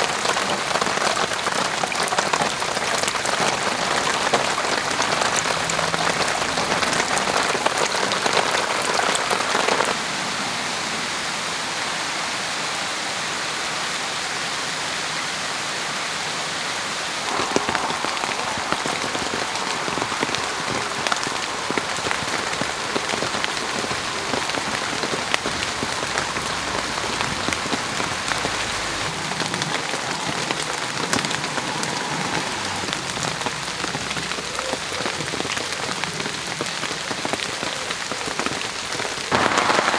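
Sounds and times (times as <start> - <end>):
rain patter on a garden: 0.0 - 39.9.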